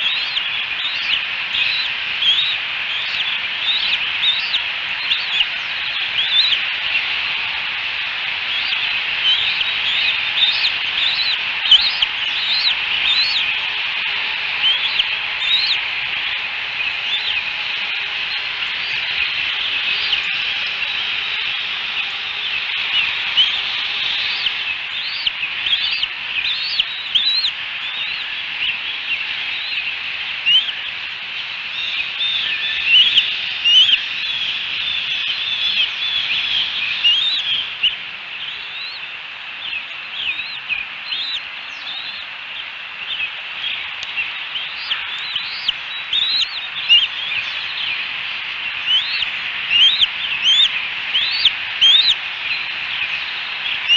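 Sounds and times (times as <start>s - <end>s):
birds chirping: 0.0s - 53.9s
steady high hiss: 0.0s - 53.9s.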